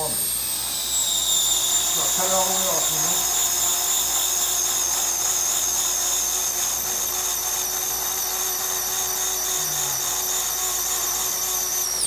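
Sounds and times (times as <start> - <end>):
surgical reamer whining: 0.0 - 12.0.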